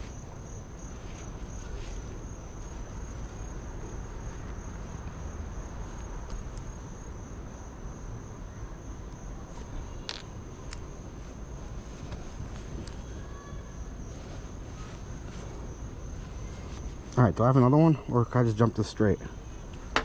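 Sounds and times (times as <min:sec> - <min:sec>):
cricket trilling: 0:00.0 - 0:20.0
low background rumble: 0:00.0 - 0:20.0.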